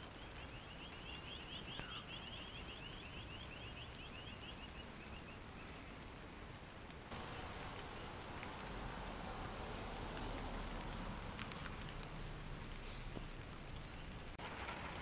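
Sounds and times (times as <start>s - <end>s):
light rain hiss: 0.0s - 15.0s.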